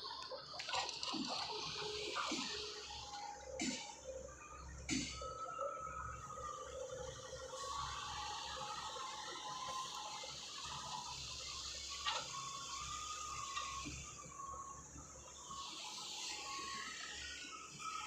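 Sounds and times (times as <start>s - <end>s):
faint wavering whine: 0.0s - 18.0s.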